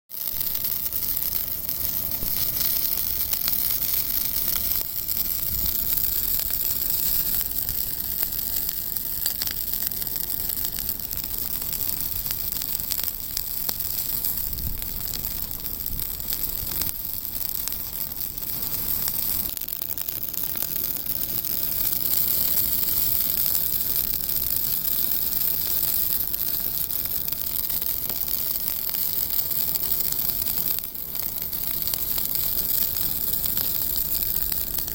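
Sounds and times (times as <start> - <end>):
bonfire hissing and crackling: 0.1 - 34.9.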